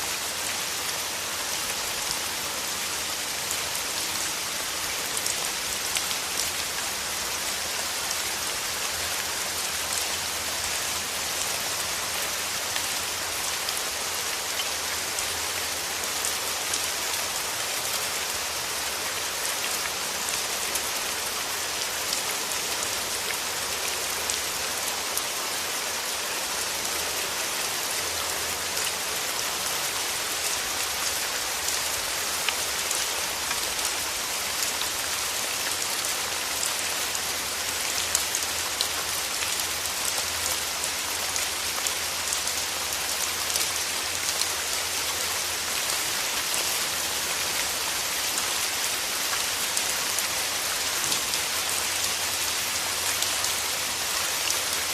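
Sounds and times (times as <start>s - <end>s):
rain falling through trees: 0.0s - 54.9s.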